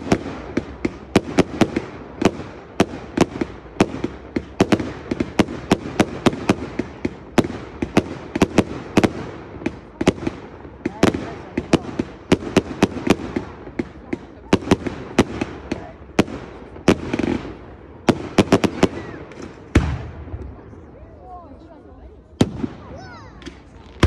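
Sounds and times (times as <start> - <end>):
fireworks bangs: 0.0 - 21.0, 22.3 - 24.0.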